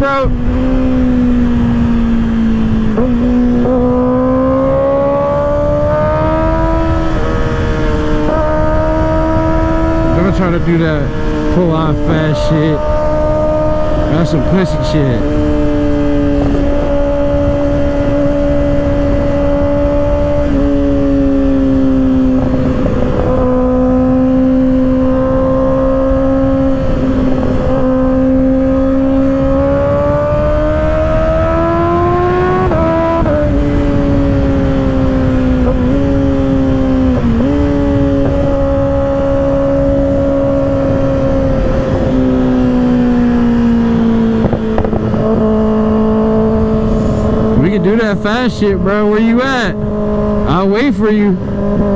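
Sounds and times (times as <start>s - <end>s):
motorcycle engine revving at speed: 0.0s - 51.9s
wind noise: 0.0s - 51.9s.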